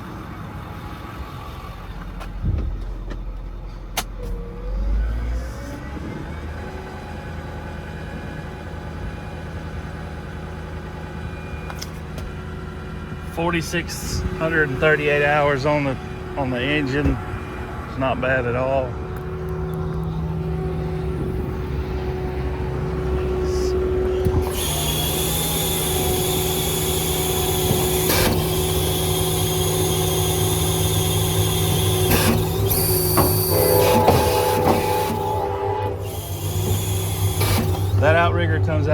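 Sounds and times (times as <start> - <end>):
diesel engine idling: 0.0 - 38.9
high-pitched whine: 4.2 - 38.9.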